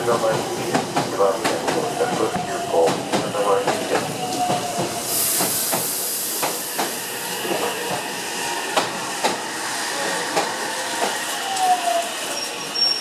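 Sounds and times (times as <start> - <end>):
train rumble: 0.0 - 13.0
train wheels clacking over rail joints: 0.1 - 8.1, 8.7 - 11.3.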